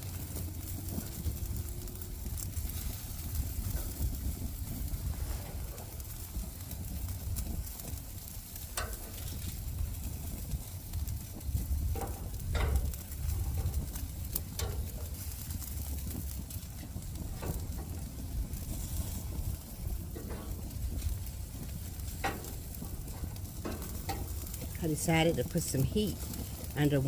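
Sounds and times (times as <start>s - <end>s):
chicken wings sizzling on a grill: 0.0s - 27.0s
low rumble: 0.0s - 27.0s.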